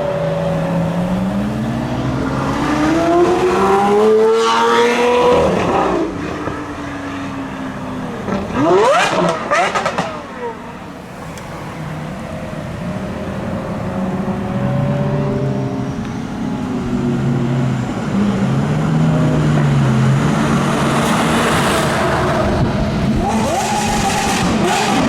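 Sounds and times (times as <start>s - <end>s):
sports car engine revving: 0.0s - 25.0s.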